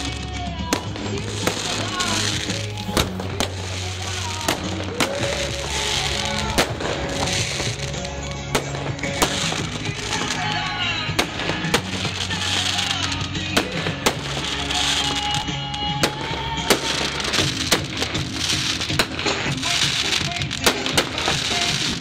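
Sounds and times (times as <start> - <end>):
background music: 0.0 - 22.0
fireworks bursting: 0.0 - 22.0.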